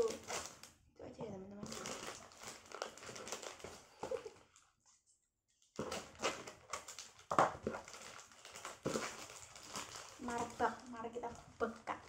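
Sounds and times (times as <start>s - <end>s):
plastic wrapping crinkling: 0.0s - 4.7s, 5.6s - 12.0s.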